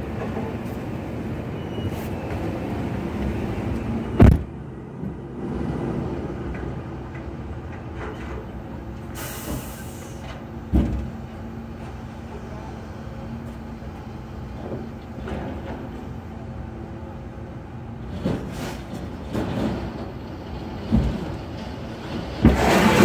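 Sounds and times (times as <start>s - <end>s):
heavy machinery engine drone: 0.0s - 23.0s.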